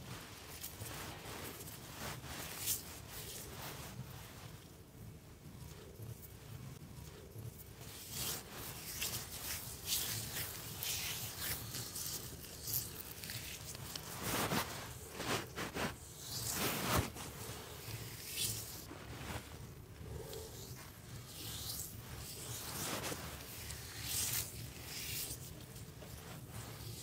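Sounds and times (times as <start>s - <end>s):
soft rubbing and rustling: 0.0s - 27.0s.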